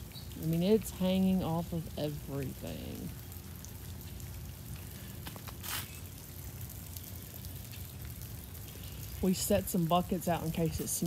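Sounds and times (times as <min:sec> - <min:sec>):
small ticks of drizzle: 0:00.0 - 0:11.0.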